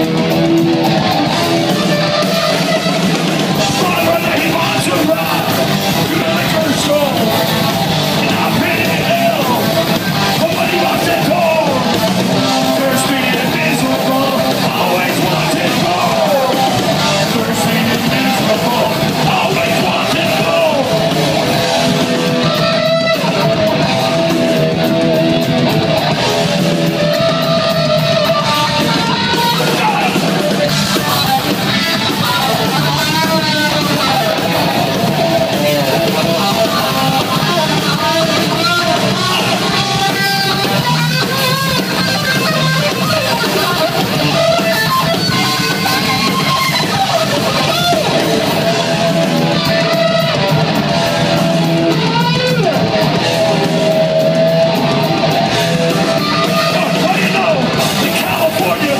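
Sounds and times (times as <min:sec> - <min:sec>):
live punk band playing: 0:00.0 - 0:58.9.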